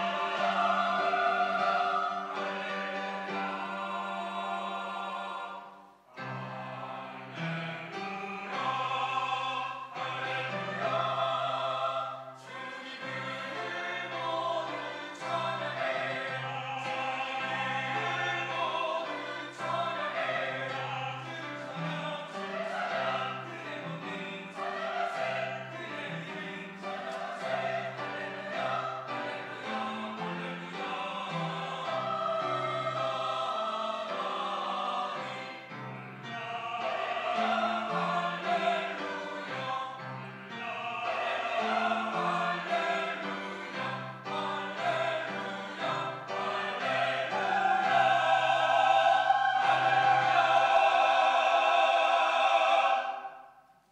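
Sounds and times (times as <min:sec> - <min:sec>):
choir singing in harmony: 0:00.0 - 0:53.7.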